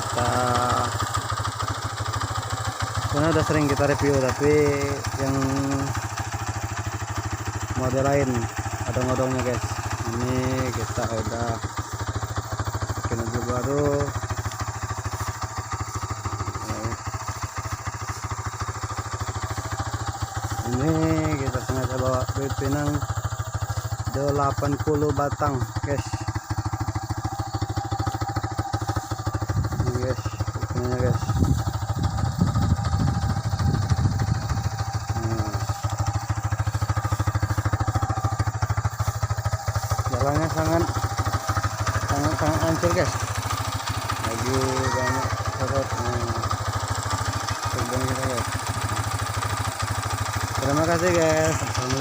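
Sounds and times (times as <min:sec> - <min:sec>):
motorcycle engine running at low revs: 0:00.0 - 0:52.0.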